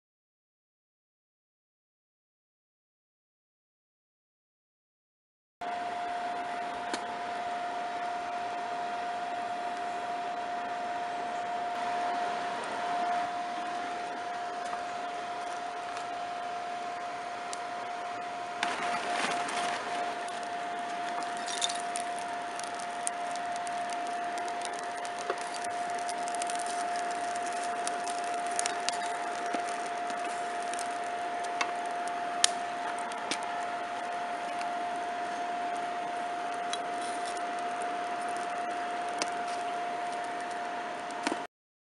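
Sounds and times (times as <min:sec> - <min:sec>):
air blast whine and rush: 0:05.6 - 0:41.5
coals crackling and popping: 0:06.1 - 0:41.5.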